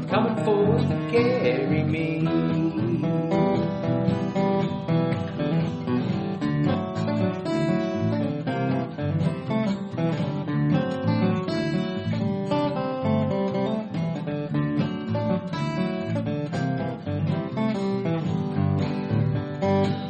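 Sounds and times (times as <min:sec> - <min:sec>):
acoustic guitar picking and strumming: 0:00.0 - 0:20.0.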